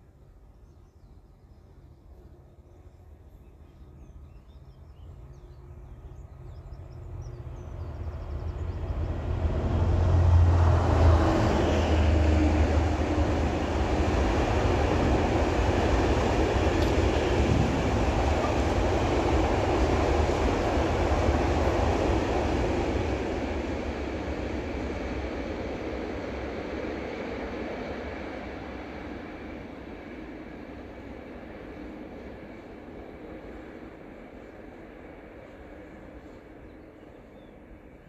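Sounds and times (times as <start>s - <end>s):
train passing at speed: 0.0s - 38.0s.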